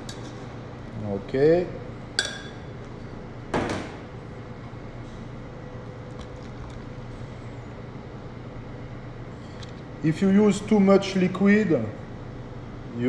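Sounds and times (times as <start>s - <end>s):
low hum of kitchen ventilation: 0.0s - 13.0s.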